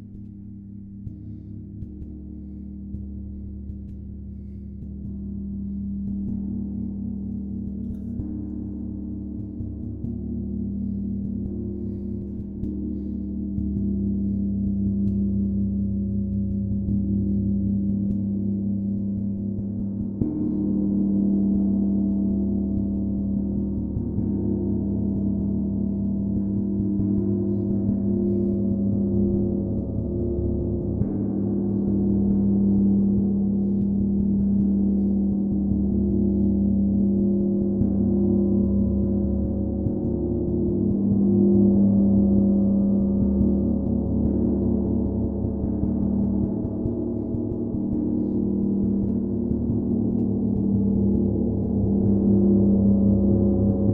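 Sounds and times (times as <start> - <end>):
gong sustained tones: 0.0 - 53.9.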